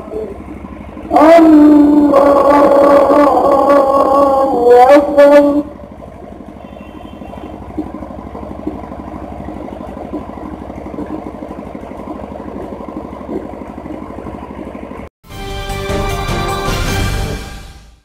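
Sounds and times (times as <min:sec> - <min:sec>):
steady low engine-like rumble: 0:00.0 - 0:15.1.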